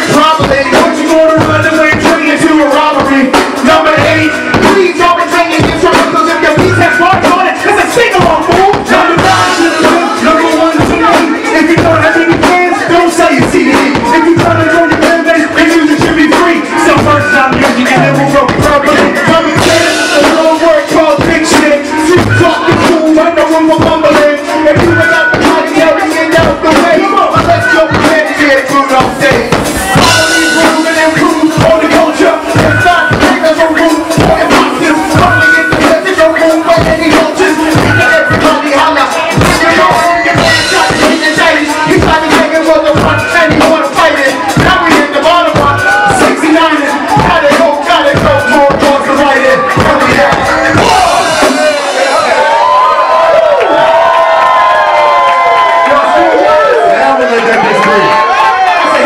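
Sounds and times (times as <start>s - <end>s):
hip-hop beat over sound system: 0.0s - 53.1s.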